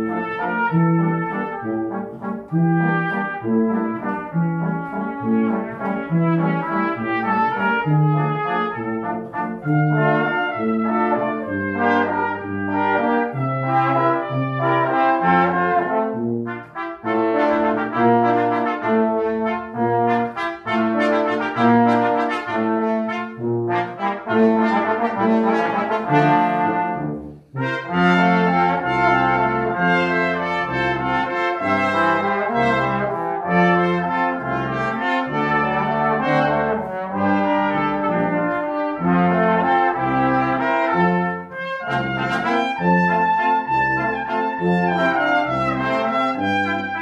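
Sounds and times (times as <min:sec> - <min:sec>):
brass quintet playing: 0:00.0 - 0:47.0.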